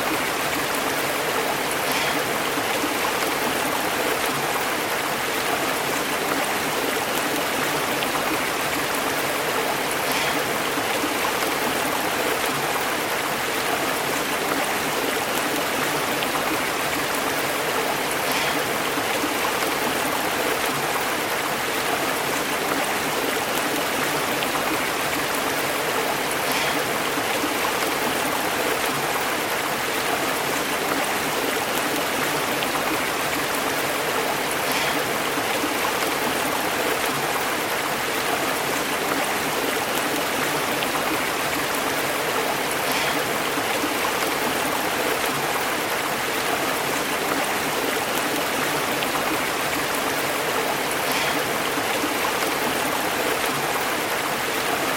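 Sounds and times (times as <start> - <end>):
stream burbling over rocks: 0.0 - 54.9.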